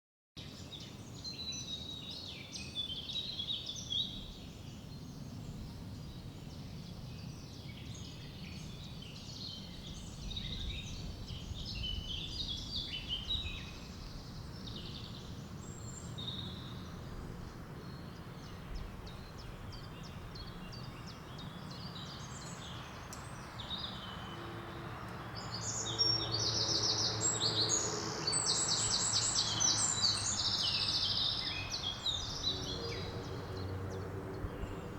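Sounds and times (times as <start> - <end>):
wind: 0.4 - 34.9
birds chirping and singing: 0.5 - 34.9.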